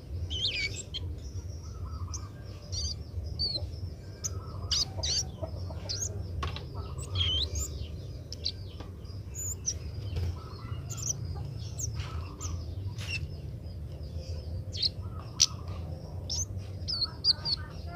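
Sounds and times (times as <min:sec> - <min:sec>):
bird chirping calls: 0:00.0 - 0:17.9
steady low hum: 0:00.0 - 0:17.9.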